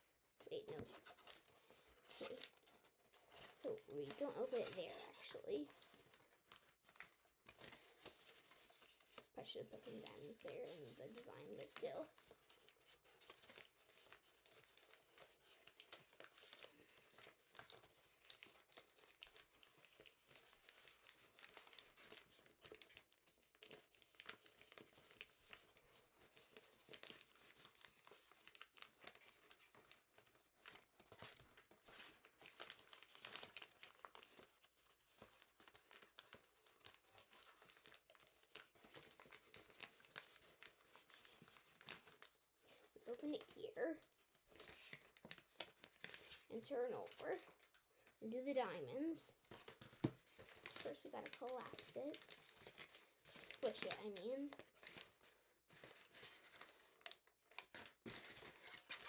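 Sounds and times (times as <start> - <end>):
paper crinkling and rustling: 0.0 - 59.0.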